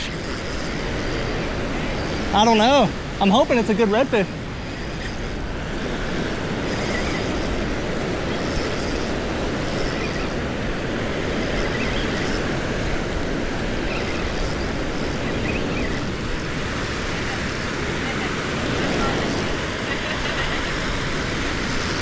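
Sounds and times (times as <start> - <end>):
surf on a beach: 0.0 - 22.0.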